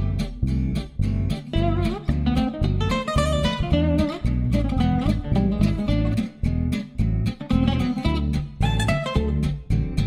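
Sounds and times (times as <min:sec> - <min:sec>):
plucked guitar over bass beat: 0:00.0 - 0:10.0.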